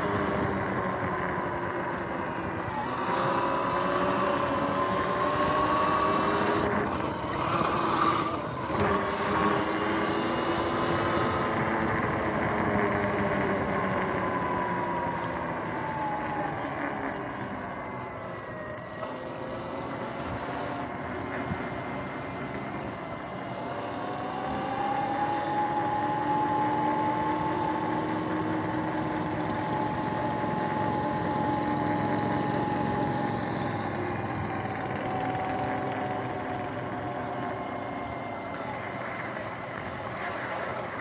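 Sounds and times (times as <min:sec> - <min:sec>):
electric motorbike whining: 0:00.0 - 0:41.0.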